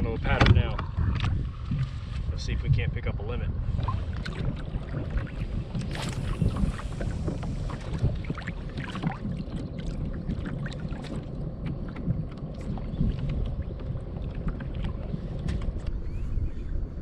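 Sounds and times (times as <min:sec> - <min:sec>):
water lapping against kayak hull: 0:00.0 - 0:16.6
wind on microphone: 0:00.0 - 0:17.0.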